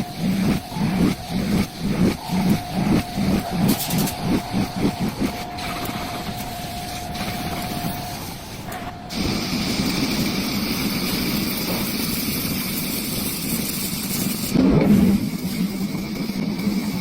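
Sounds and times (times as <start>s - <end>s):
lathe humming with high whine: 0.0s - 17.0s.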